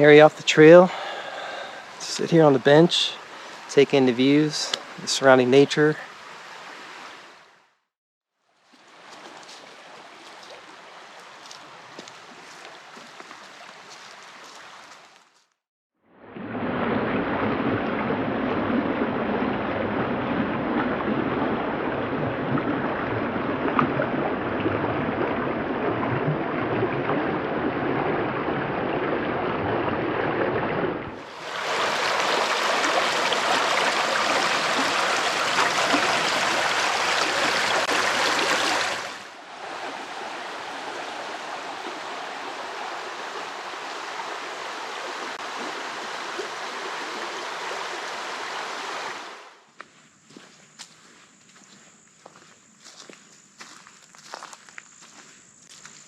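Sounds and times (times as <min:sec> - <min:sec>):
creek water flowing: 0:00.0 - 0:07.6, 0:08.4 - 0:15.6, 0:17.1 - 0:49.6.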